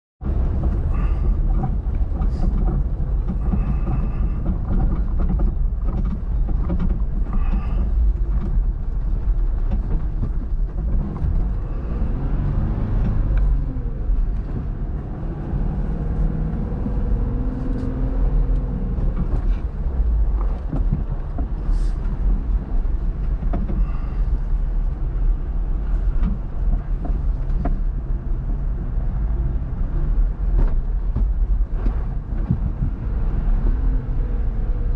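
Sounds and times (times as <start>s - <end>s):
off-road vehicle rumbling: 0.2s - 34.9s.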